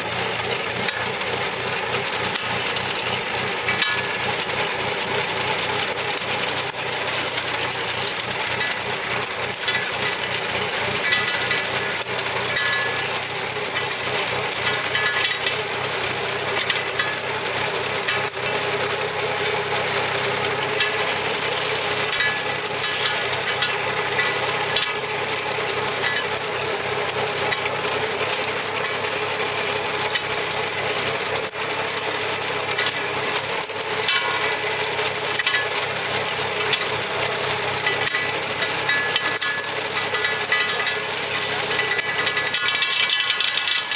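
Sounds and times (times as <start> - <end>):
harvester chain clattering: 0.0 - 43.9
tractor engine running: 0.0 - 43.9.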